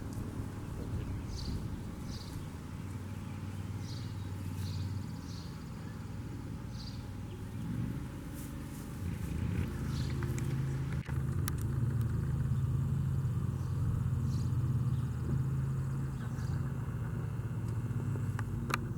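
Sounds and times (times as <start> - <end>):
vehicle engine humming: 0.0 - 18.9.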